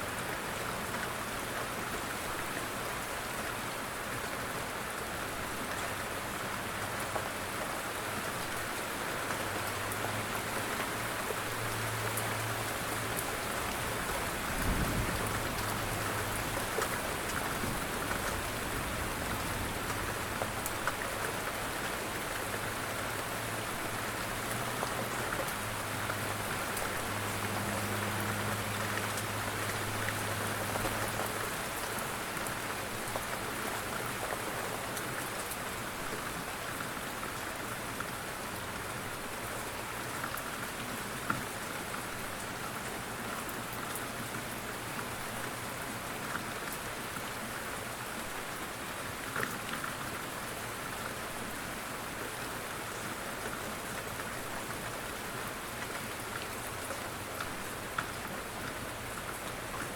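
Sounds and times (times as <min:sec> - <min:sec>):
rain pattering: 0:00.1 - 0:59.9.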